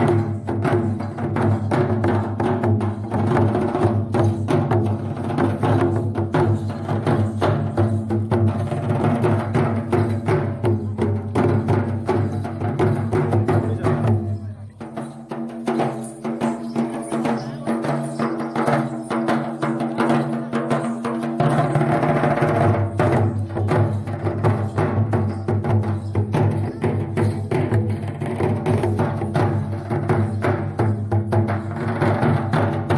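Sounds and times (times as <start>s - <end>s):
fast steady drumming: 0.0s - 32.9s.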